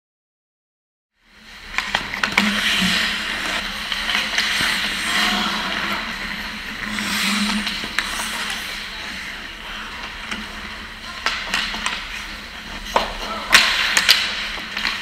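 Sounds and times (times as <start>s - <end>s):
steady low hum: 1.2s - 15.0s
skates scraping on ice: 1.3s - 15.0s
hockey sticks and puck clacking: 1.5s - 15.0s.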